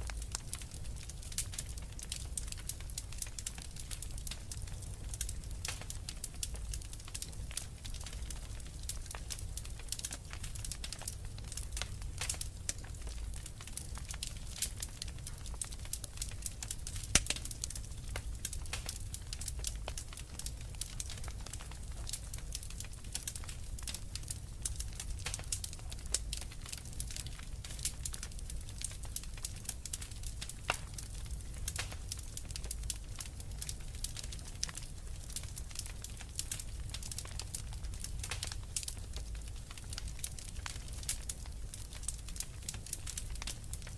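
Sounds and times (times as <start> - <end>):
fire flames rumbling: 0.0 - 43.9
wood fire crackling and popping: 0.0 - 43.9.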